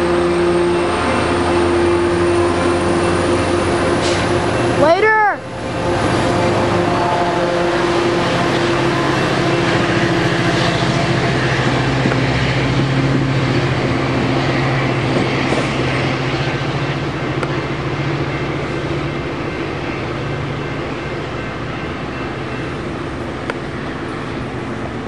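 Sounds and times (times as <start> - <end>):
diesel engine drone: 0.0 - 25.0
train cars rumbling past: 0.0 - 25.0.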